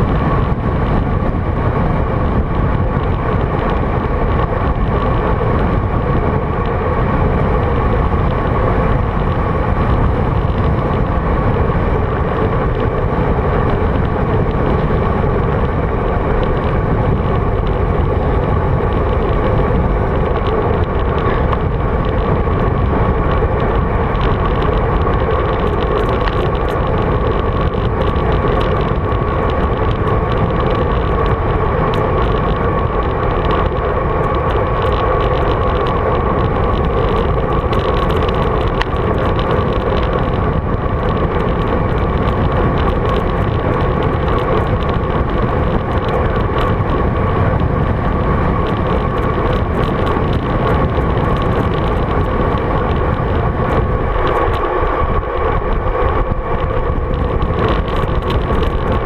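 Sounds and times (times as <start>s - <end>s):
constant hum: 0.0s - 59.0s
wind rushing on microphone: 0.0s - 59.0s.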